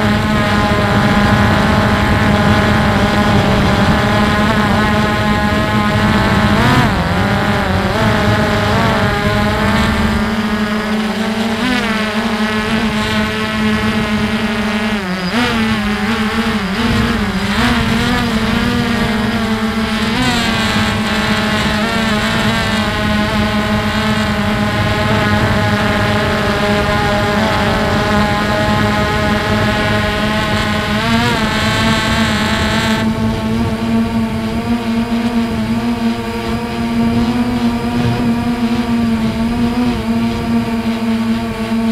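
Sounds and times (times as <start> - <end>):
drone motors whining: 0.0 - 41.9
low rumble of wind: 0.0 - 41.9.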